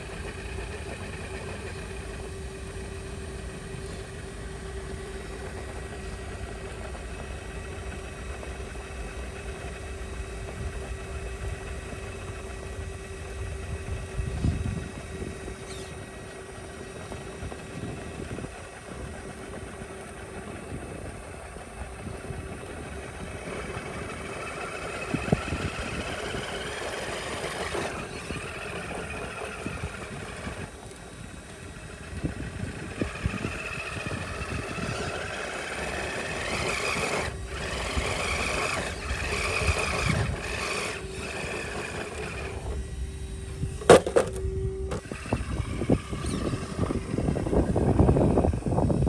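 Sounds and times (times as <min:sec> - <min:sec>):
electric motor whining: 0:00.0 - 0:49.0.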